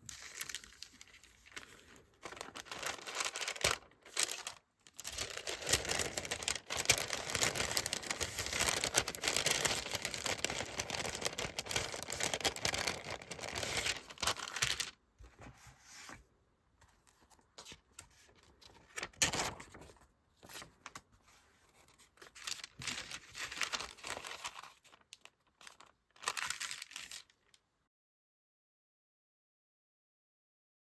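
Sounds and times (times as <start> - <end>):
packaging crinkling and rustling: 0.0 - 15.6, 17.0 - 27.6.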